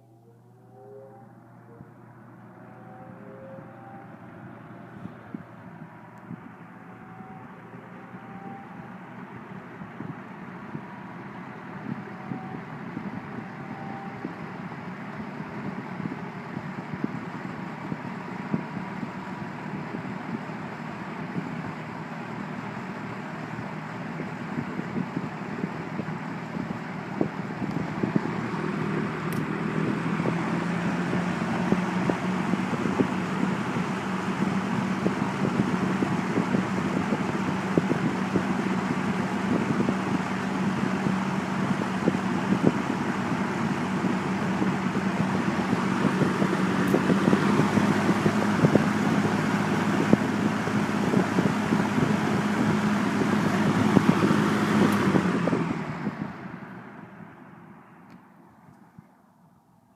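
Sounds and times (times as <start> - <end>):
box fan running: 0.0 - 58.9.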